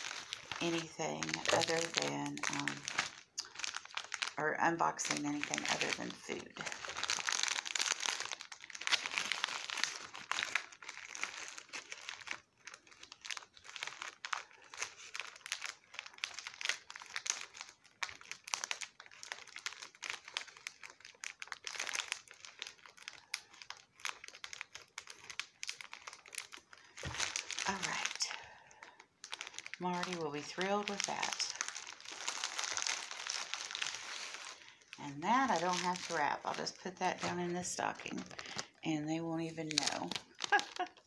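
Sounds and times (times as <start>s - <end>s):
plastic wrapping crinkling: 0.0s - 41.0s.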